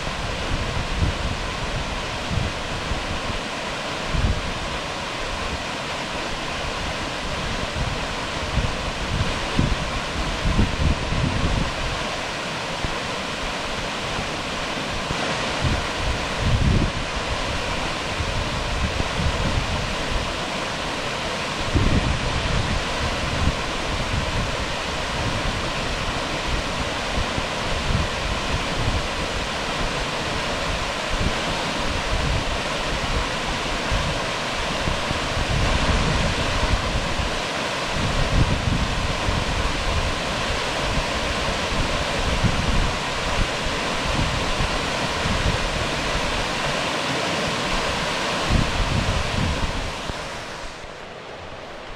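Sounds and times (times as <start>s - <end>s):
waterfall rushing: 0.0s - 51.9s
wind gusts buffeting microphone: 0.0s - 51.9s.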